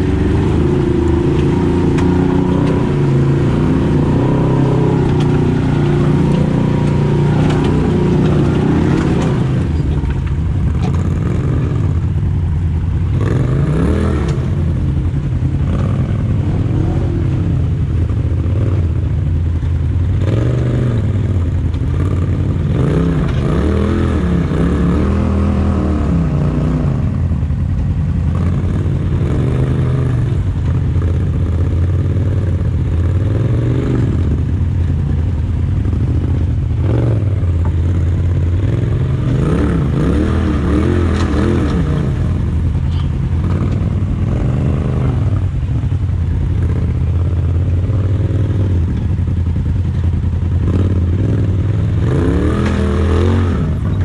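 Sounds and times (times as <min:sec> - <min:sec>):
engine idling: 0:00.0 - 0:23.9, 0:26.2 - 0:54.0
engine revving: 0:00.0 - 0:35.2, 0:35.8 - 0:54.0.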